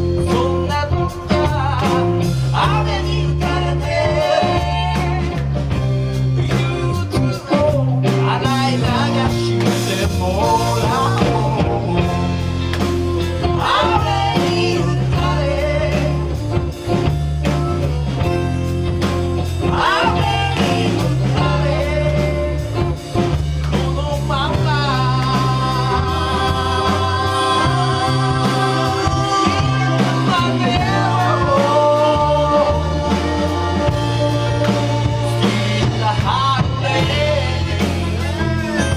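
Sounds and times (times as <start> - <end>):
person singing: 0.0 - 12.6, 13.3 - 17.0, 19.6 - 38.9
soul band playing: 0.0 - 38.9.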